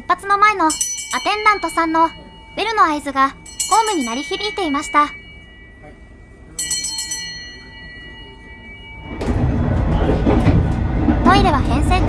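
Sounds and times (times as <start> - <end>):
hand bell ringing: 0.0 - 10.8.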